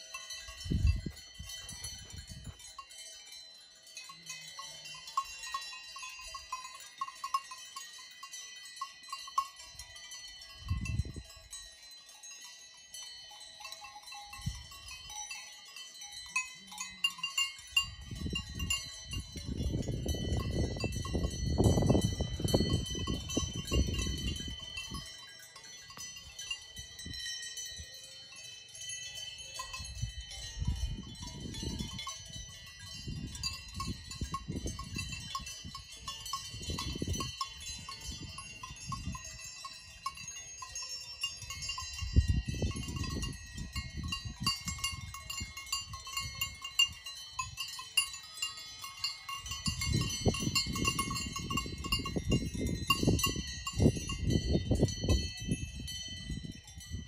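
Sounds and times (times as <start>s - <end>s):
cowbells clanking: 0.0s - 57.0s.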